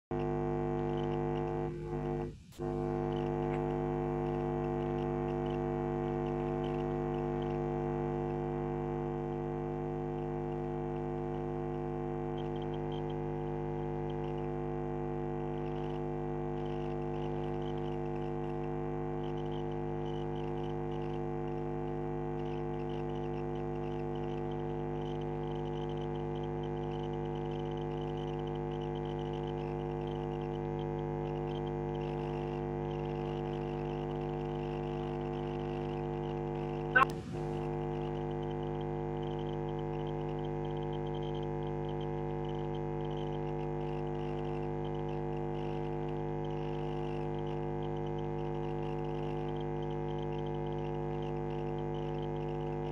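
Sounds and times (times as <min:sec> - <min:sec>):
electrical mains hum: 0:00.1 - 0:52.9.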